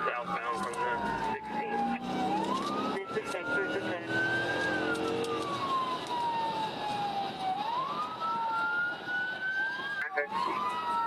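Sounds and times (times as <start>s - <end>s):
police siren wailing: 0.0s - 11.0s
road and engine noise: 0.0s - 11.0s.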